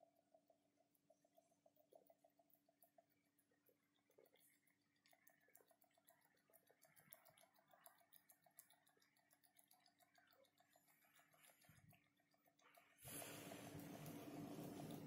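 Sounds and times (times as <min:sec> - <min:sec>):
dry ice bubbling in water: 0:00.1 - 0:15.0.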